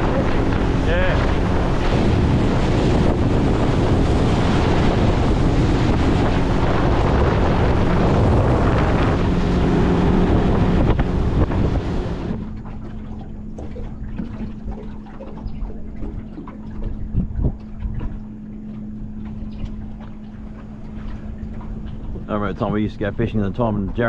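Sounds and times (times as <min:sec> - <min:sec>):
boat motor drone: 0:00.0 - 0:24.0
lapping water: 0:00.0 - 0:24.0
water rushing past hull: 0:00.0 - 0:24.0
wind buffeting microphone: 0:00.0 - 0:24.0.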